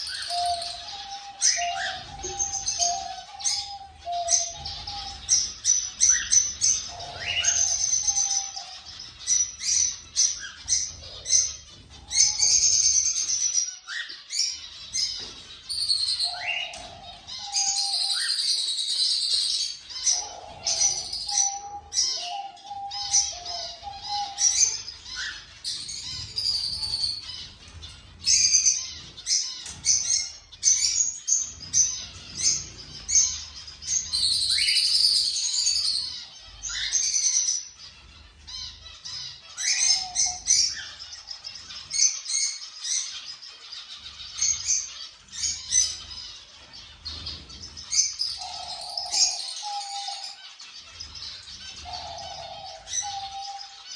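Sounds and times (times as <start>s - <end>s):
cockatiels chirping: 0.0s - 53.9s.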